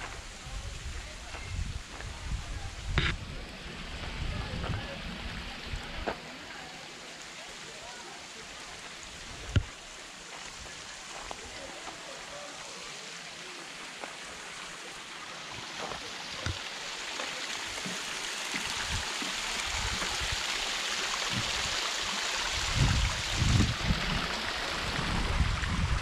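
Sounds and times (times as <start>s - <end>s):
water trickling down waterfall: 0.0s - 26.0s.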